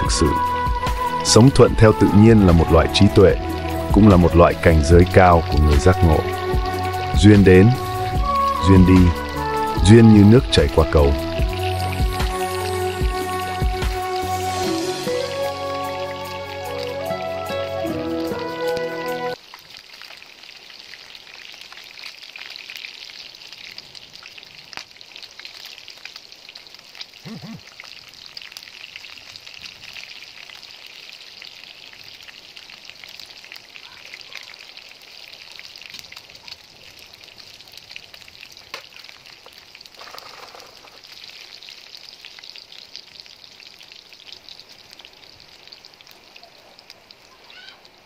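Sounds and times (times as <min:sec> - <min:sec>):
offal sizzling in oil: 0:00.0 - 0:48.0.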